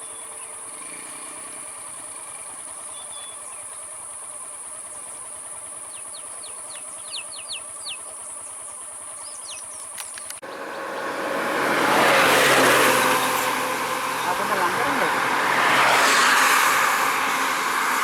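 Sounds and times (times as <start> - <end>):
vehicle engine and tyres passing: 0.0 - 9.3, 10.3 - 18.0.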